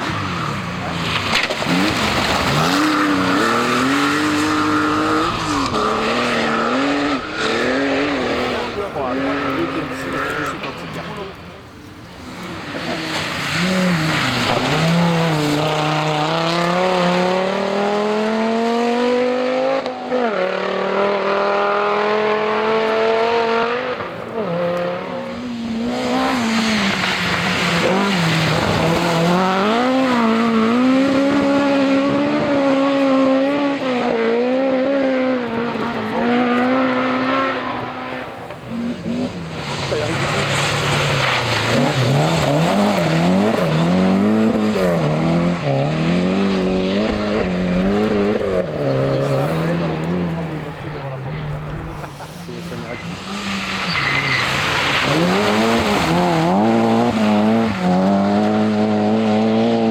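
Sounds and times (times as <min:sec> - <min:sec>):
rally car engine revving hard: 0:00.0 - 0:11.4, 0:12.1 - 0:59.9.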